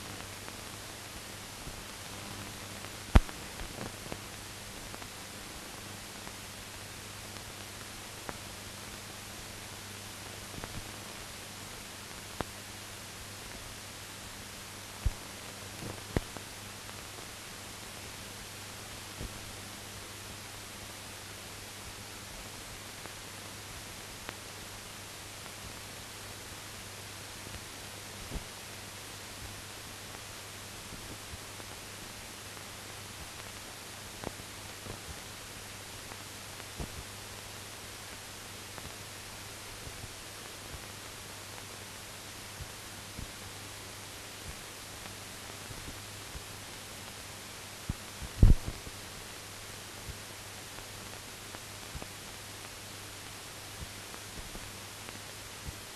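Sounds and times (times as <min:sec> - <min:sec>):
steady hiss and low hum: 0:00.0 - 0:55.9.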